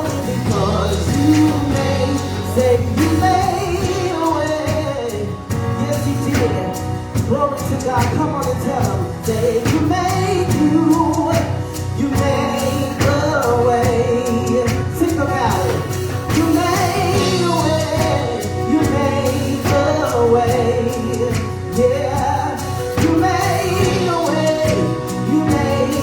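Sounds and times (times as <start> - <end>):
band accompaniment with steady beat: 0.0 - 26.0
voices singing: 0.0 - 26.0.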